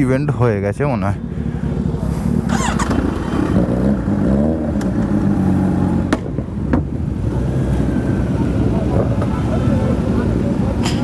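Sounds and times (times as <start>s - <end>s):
motorcycle engines revving: 1.1s - 11.0s.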